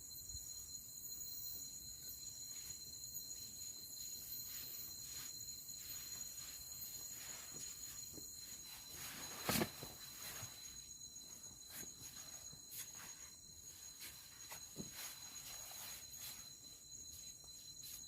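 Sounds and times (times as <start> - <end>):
high-pitched insect trilling: 0.0 - 18.0.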